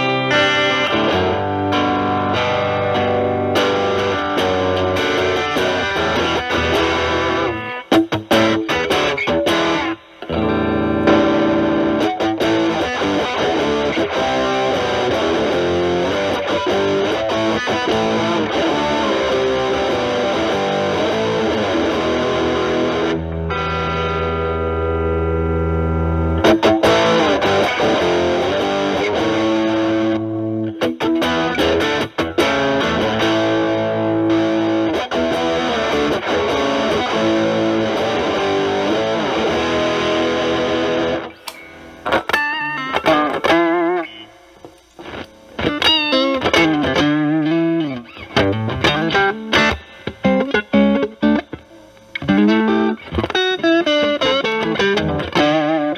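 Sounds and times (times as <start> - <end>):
distorted electric guitar lead: 0.0 - 55.9.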